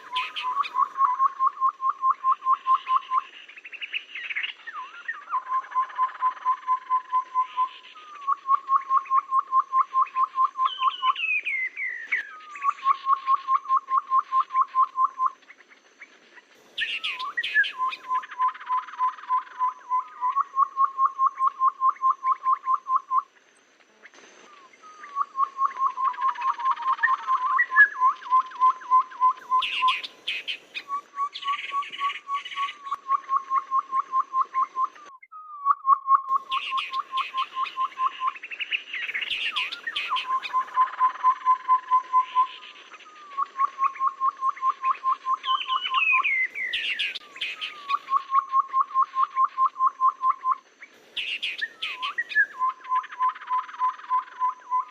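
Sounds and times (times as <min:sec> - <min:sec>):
high sharp bird chirps: 0:00.0 - 0:15.7, 0:16.8 - 0:23.2, 0:24.8 - 0:54.9
rapid piping bird notes: 0:00.0 - 0:54.9.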